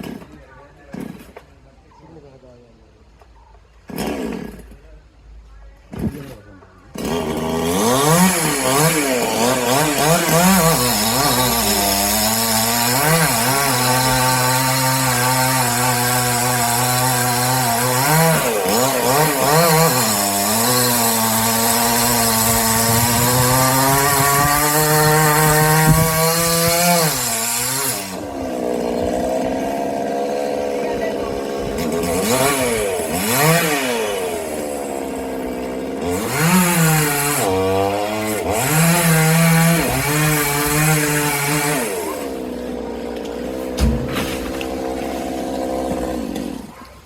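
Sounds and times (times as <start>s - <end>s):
chainsaw cutting through trunk: 0.0s - 1.5s, 3.9s - 4.9s, 5.9s - 47.0s.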